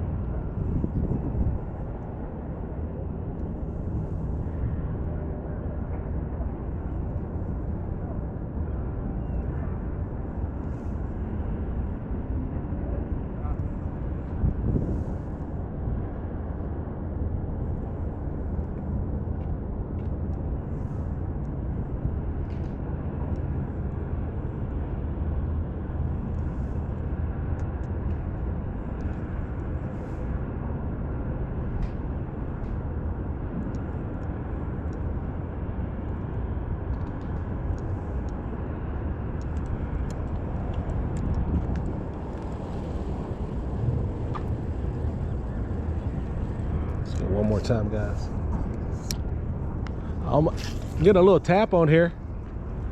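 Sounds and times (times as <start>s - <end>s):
low rumbling background noise: 0.0s - 52.9s.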